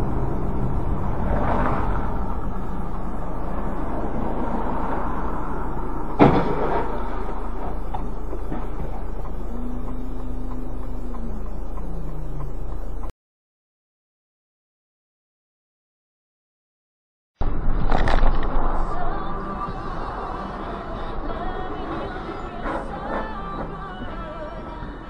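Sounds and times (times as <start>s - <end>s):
car engine and road noise: 0.0s - 13.1s, 17.4s - 25.0s.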